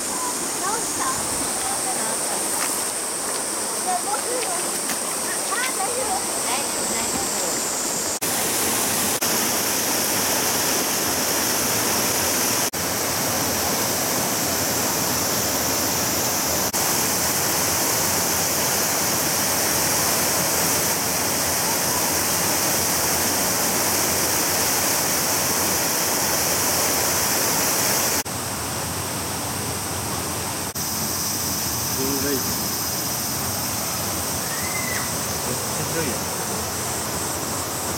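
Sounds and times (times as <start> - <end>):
stream rushing over boulders: 0.0 - 37.9.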